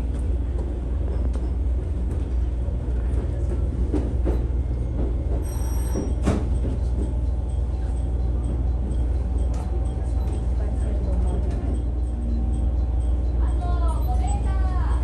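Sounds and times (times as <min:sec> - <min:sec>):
railcar rumbling on rails: 0:00.0 - 0:15.0.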